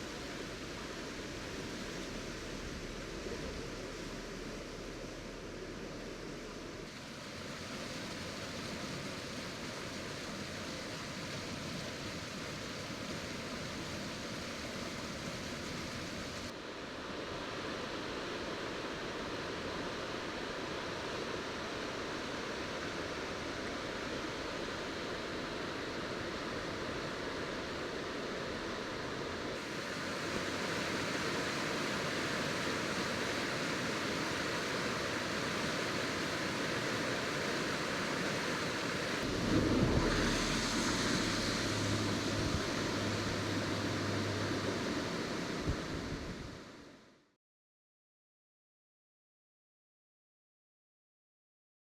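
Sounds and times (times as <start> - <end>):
river rushing: 0.0 - 47.0.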